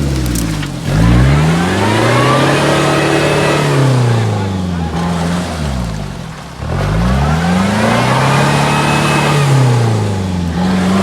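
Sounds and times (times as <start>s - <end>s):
suv engine revving: 0.0s - 11.0s.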